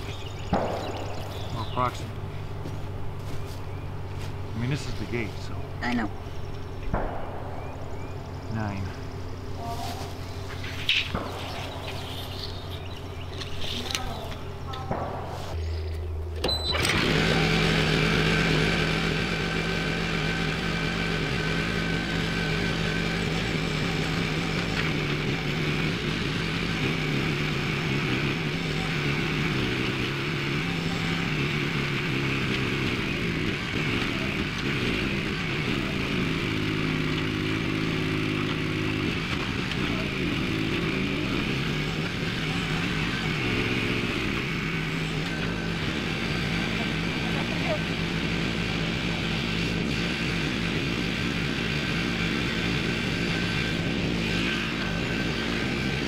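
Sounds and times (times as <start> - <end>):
auger gas engine running: 0.0 - 56.0.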